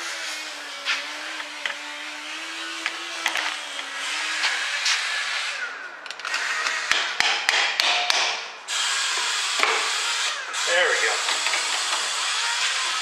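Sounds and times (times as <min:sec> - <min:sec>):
steady mechanical noise: 0:00.0 - 0:07.3, 0:08.1 - 0:13.0.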